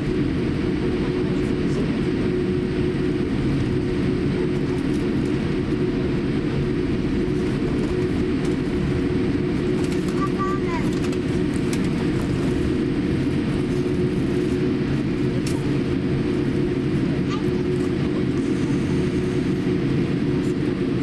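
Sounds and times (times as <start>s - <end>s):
aircraft cabin engine hum: 0.0s - 21.0s.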